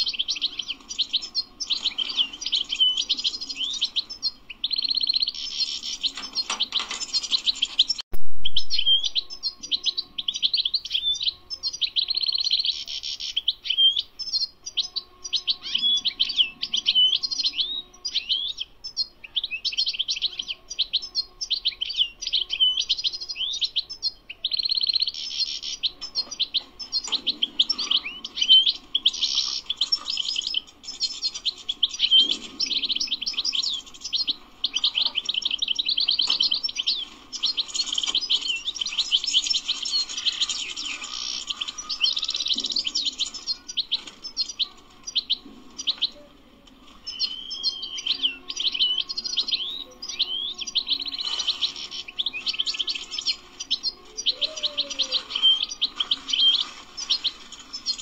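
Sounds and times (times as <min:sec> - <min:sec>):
finch singing twittering song: 0:00.0 - 0:58.0.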